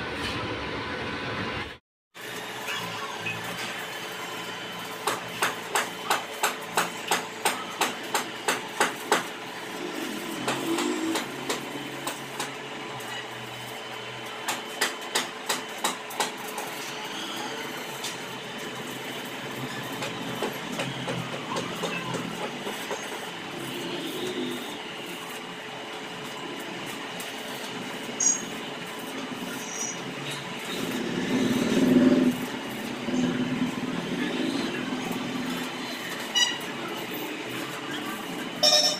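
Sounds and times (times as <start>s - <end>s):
welding arc crackle: 2.2s - 38.9s.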